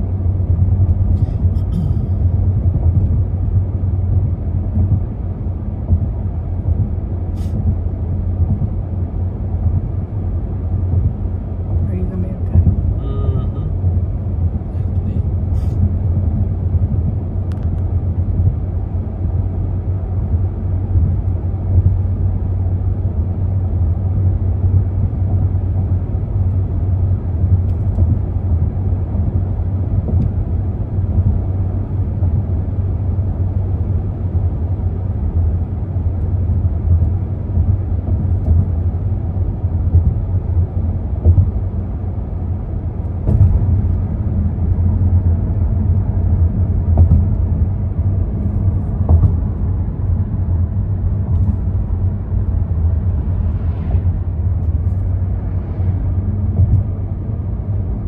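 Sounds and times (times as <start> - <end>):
car road noise drone: 0.0 - 58.0.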